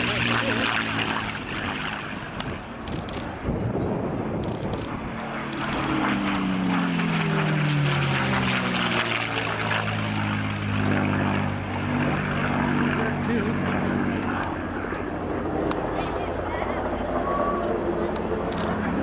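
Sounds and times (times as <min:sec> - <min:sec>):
aircraft engine passing by: 0:00.0 - 0:19.0.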